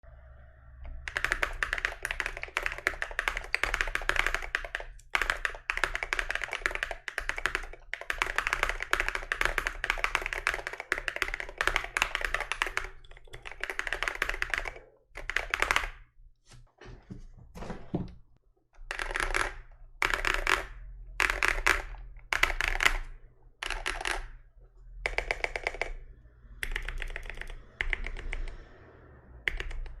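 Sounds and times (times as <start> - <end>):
mechanical keyboard typing: 0.8 - 16.1, 18.8 - 28.6, 29.4 - 30.0.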